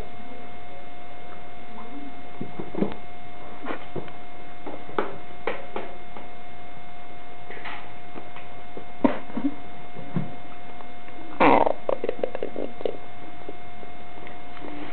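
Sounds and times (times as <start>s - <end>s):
electrical hum and hiss: 0.0s - 14.9s.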